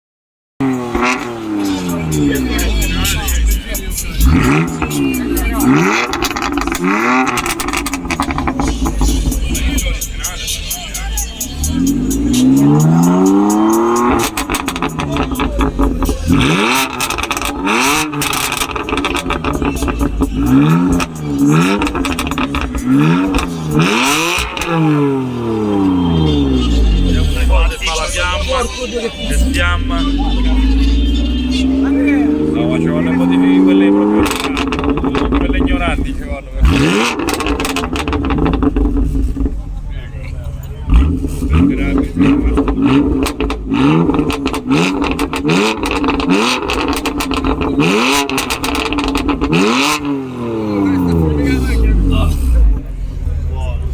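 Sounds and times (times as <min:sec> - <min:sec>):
car engine revving: 0:00.6 - 0:53.9
exhaust pops and crackles: 0:00.9 - 0:53.9.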